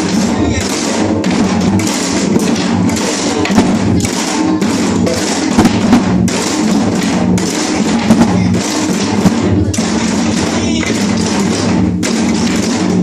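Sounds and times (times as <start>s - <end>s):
drum strokes: 0.0s - 13.0s.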